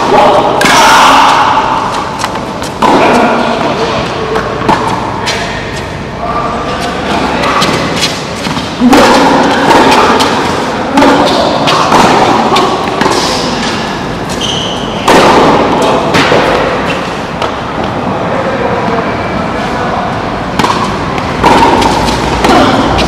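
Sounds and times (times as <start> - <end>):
racket hitting tennis ball: 0.0 - 6.0, 6.7 - 17.9, 20.5 - 23.0.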